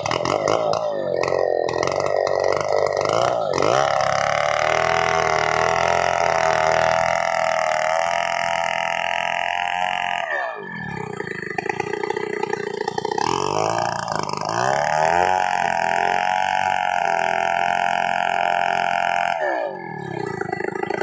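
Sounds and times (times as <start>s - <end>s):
chainsaw engine at high revs: 0.0s - 21.0s.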